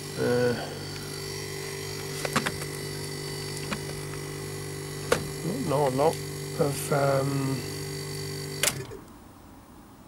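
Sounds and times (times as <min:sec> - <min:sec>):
condensing unit electrical hum: 0:00.0 - 0:10.0.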